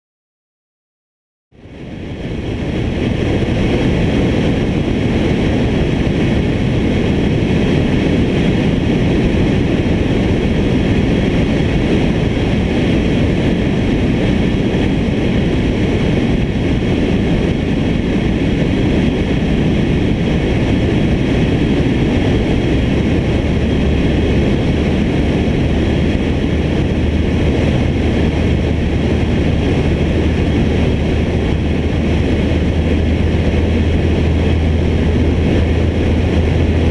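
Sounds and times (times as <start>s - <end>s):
airplane engine drone: 1.5s - 36.9s
low steady hum: 1.6s - 36.9s.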